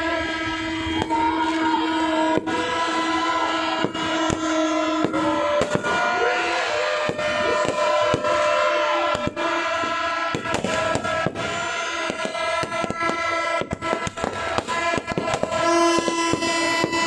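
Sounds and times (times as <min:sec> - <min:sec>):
fireworks bangs and cracks: 0:00.0 - 0:17.0
held horn-like tones: 0:00.0 - 0:17.0.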